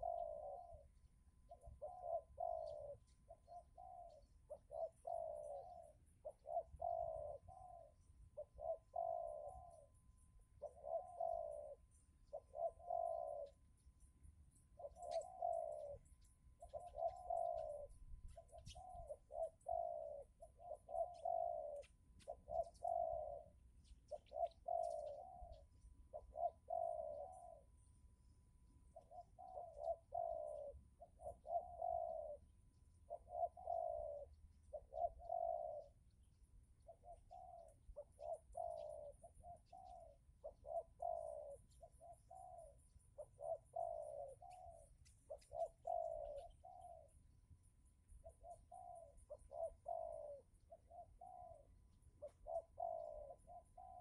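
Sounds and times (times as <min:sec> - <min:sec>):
dove cooing: 0:00.0 - 0:14.0, 0:14.6 - 0:27.8, 0:28.9 - 0:47.3, 0:48.1 - 0:54.0.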